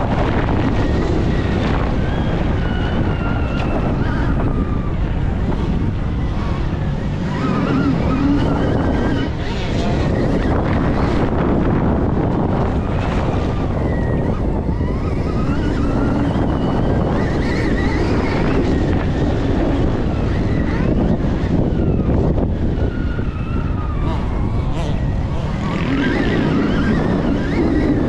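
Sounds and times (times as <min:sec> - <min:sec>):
electric motor whine: 0:00.0 - 0:28.0
wind rush on microphone: 0:00.0 - 0:28.0.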